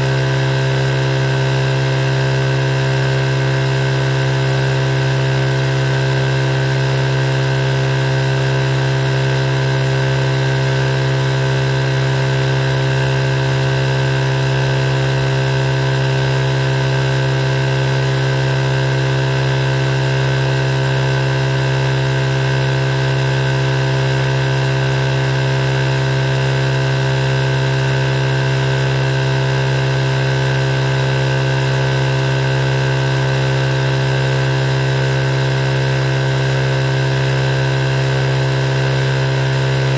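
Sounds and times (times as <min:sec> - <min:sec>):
sewing machine motor hum: 0:00.0 - 0:39.9.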